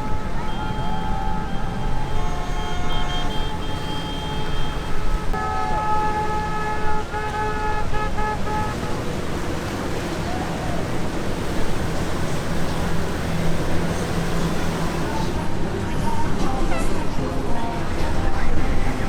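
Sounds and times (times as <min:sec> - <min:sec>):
boat engine: 0:00.0 - 0:19.0
boat horns blasting: 0:00.0 - 0:19.0
water noise: 0:00.0 - 0:19.0.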